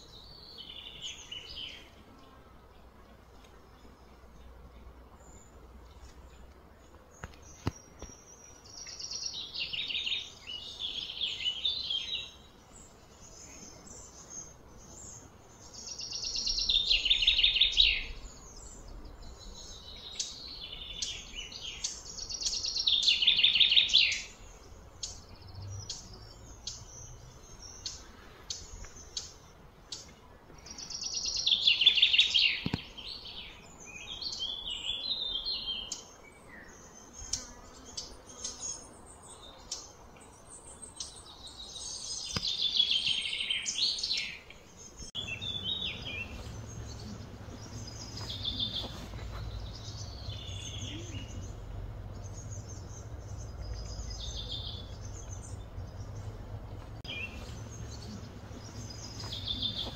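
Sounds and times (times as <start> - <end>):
bird chirps: 7.0 - 59.9
bird trilling song: 7.2 - 59.9.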